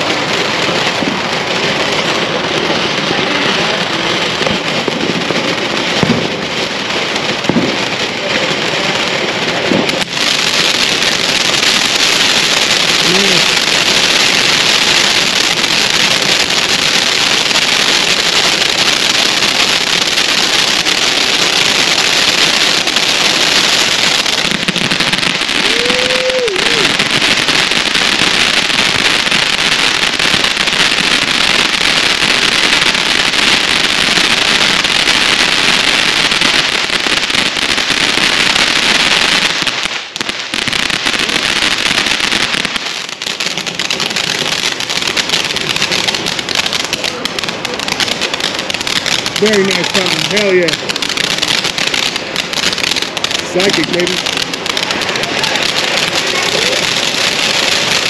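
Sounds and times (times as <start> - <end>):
firework fountain hissing: 0.0 - 58.0.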